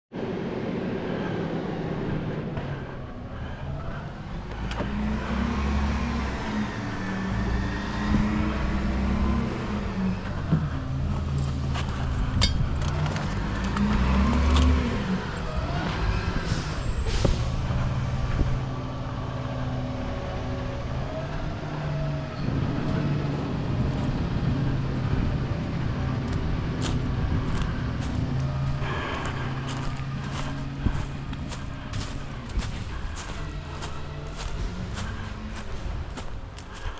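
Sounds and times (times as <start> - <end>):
vehicle engine humming: 0.1 - 36.9.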